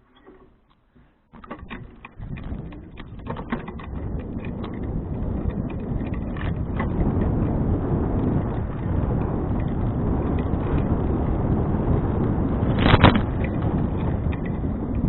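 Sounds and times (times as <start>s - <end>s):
bicycle clicks and rattles: 0.0s - 15.0s
bicycle rolling rumble: 0.0s - 15.0s
wind rush on microphone: 1.4s - 15.0s.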